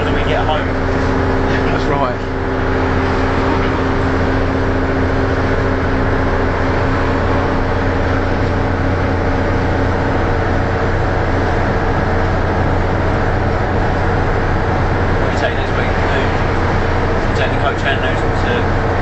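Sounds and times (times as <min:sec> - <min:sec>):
bus engine droning: 0:00.0 - 0:19.0.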